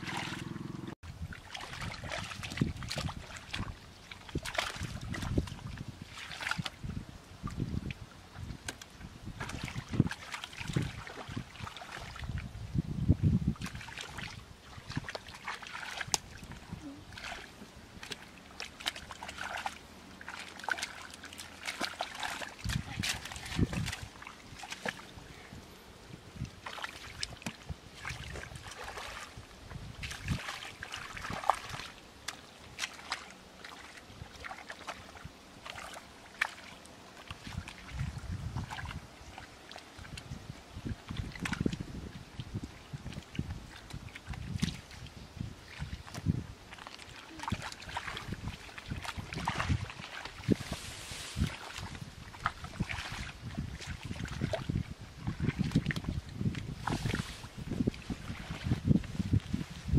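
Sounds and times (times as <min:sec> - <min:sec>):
mud squelching and sloshing: 0:00.0 - 0:59.9
small splashes and slaps: 0:01.3 - 0:06.8, 0:07.5 - 0:12.5, 0:13.6 - 0:25.1, 0:26.4 - 0:29.4, 0:30.0 - 0:40.3, 0:41.1 - 0:41.8, 0:42.4 - 0:45.1, 0:45.7 - 0:59.6.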